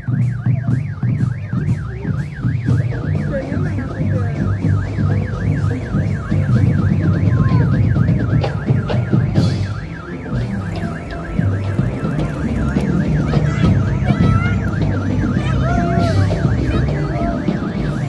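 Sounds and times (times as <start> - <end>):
warbling electronic siren: 0.0 - 18.0.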